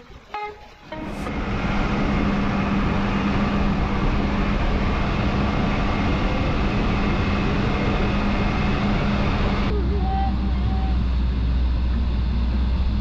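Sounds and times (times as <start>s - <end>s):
truck engine and road noise: 0.9s - 13.0s.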